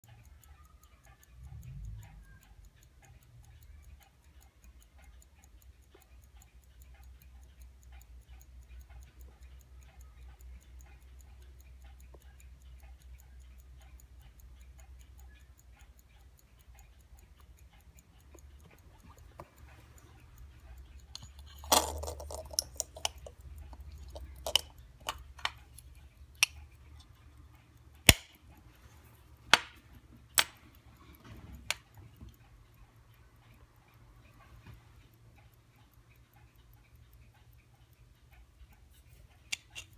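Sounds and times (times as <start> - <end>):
pocket watch ticking: 0.0 - 39.9
watch being handled clicks: 0.0 - 39.9.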